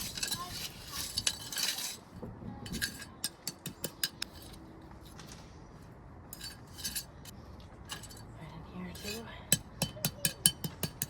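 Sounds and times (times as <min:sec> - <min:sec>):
pavers clinking and scraping: 0:00.0 - 0:05.5, 0:06.2 - 0:11.0.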